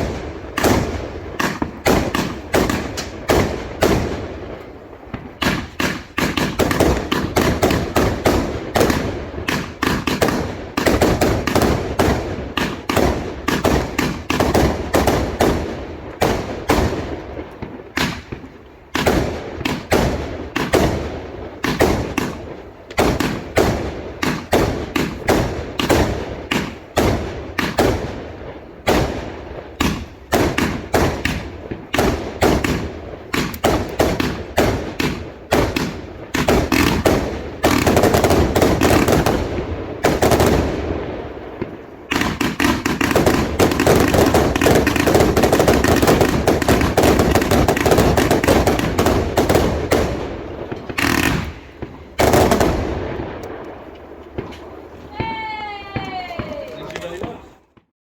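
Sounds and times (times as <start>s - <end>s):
firework explosions: 0.0s - 57.9s.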